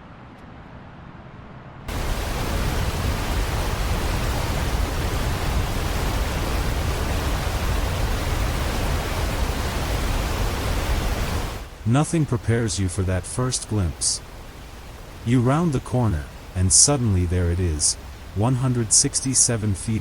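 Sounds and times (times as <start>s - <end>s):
waterfall roaring: 1.9s - 20.0s.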